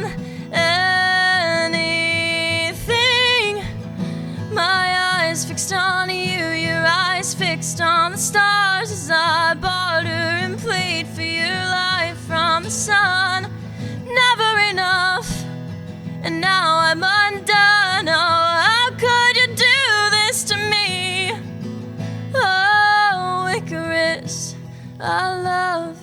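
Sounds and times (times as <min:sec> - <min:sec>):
woman singing: 0:00.0 - 0:21.5, 0:22.3 - 0:26.0
acoustic guitar: 0:00.0 - 0:26.0.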